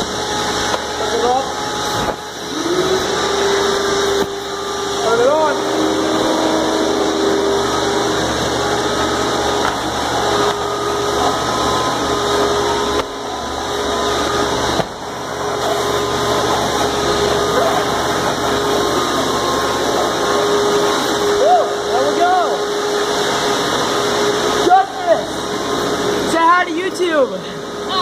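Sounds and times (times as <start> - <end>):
wet dry vacuums running: 0.0 - 28.0.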